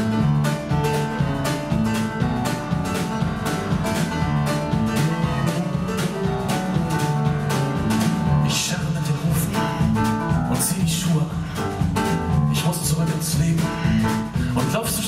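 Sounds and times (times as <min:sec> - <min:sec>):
drum kit steady beat: 0:00.0 - 0:15.0
electric bass: 0:00.0 - 0:15.0
grand piano: 0:00.0 - 0:15.0.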